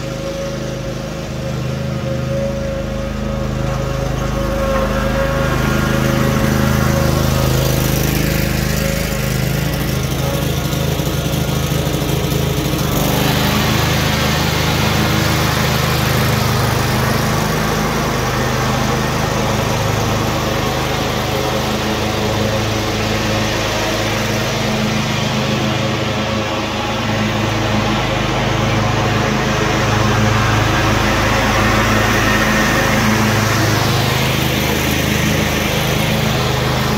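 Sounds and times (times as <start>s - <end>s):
riding mower engine running: 0.0s - 36.9s.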